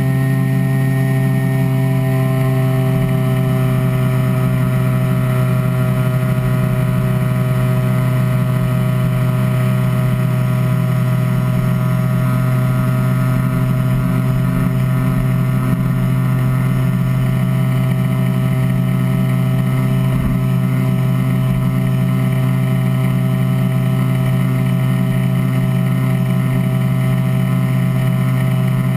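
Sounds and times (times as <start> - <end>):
scooter engine droning: 0.0 - 28.9.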